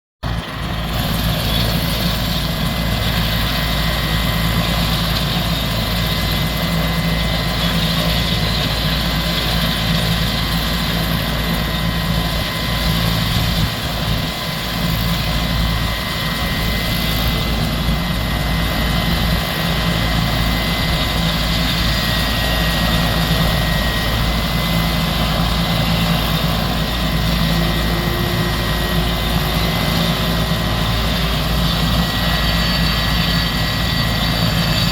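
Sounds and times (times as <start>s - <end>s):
helicopter running: 0.2s - 34.9s.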